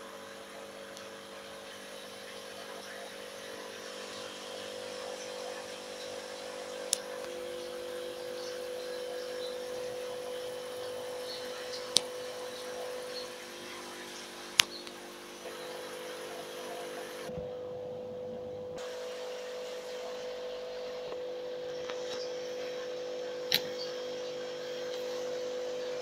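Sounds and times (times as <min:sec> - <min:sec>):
air pumps humming: 0:00.0 - 0:26.0.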